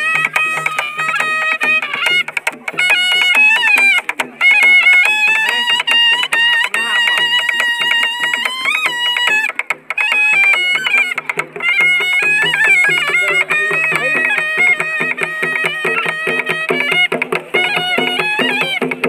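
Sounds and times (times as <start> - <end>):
barrel drum beat: 0.0 - 19.0
reed pipe dance melody: 0.0 - 19.0.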